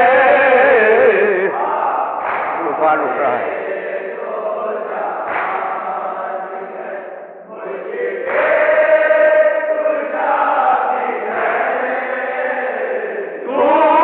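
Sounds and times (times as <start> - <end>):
men chanting a slow lament: 0.0 - 14.0.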